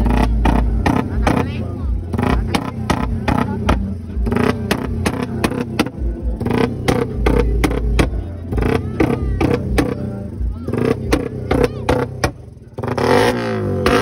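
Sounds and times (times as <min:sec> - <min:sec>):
motorcycle engine revving: 0:00.0 - 0:14.0
voices of people: 0:00.0 - 0:14.0.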